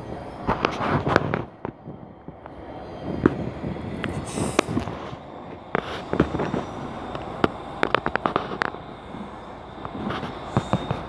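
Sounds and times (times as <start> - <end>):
low train rumble: 0.0 - 11.0
train wheels clicking on rails: 0.0 - 11.0.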